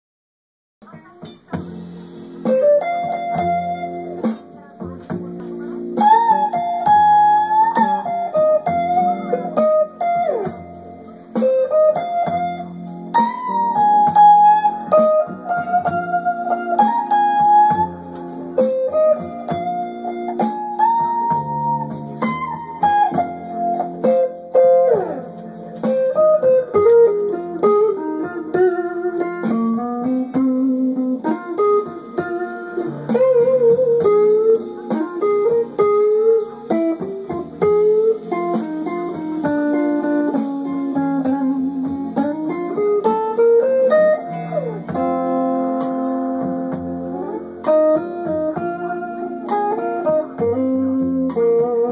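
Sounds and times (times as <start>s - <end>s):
electric guitar blues lead: 0.8s - 51.9s.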